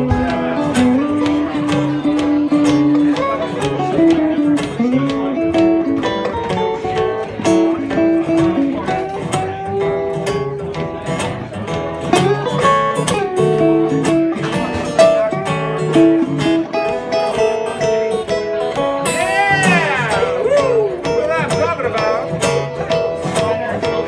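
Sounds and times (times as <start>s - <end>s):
acoustic blues guitars: 0.0s - 24.0s.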